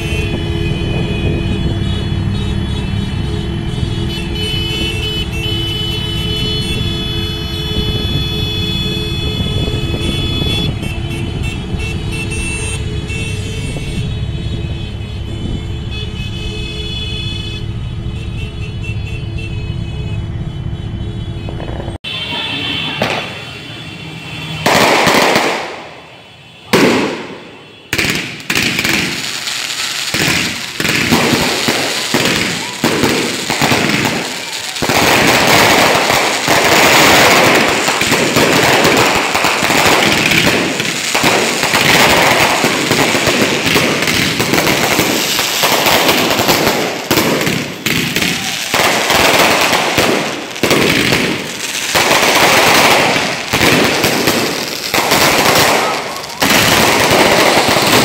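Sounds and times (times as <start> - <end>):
firework bangs: 0.0 - 17.6, 21.4 - 58.0
firecrackers crackling: 0.0 - 17.8, 21.5 - 58.0.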